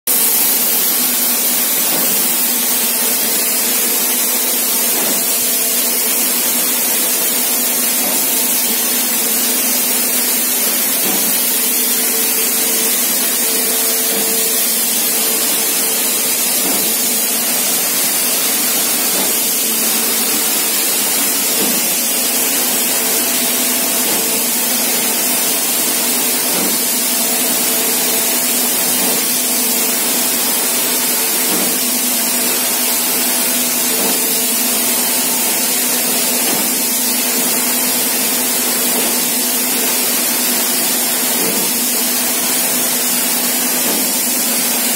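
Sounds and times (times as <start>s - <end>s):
machine hum: 0.1s - 36.5s.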